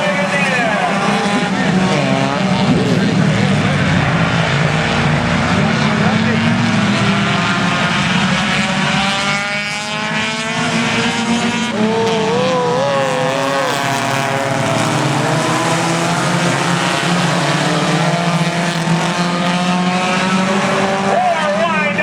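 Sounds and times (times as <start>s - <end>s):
race car engines drone: 0.0s - 22.0s.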